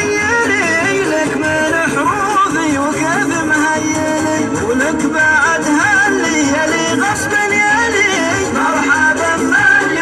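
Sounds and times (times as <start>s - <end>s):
man singing ornamented line: 0.0s - 10.0s.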